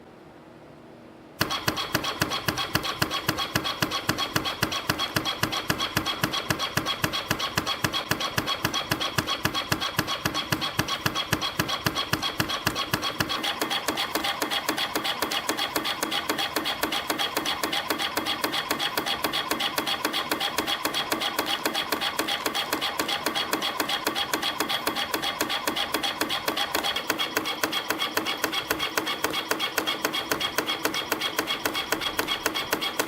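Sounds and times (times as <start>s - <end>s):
spring coiling machine clattering: 1.4s - 33.0s.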